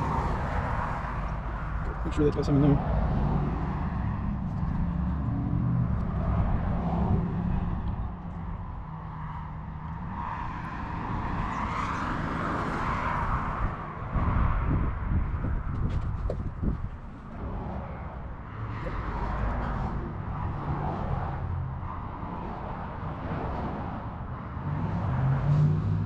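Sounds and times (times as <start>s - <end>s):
passing vehicle engine rumble: 0.0s - 26.0s.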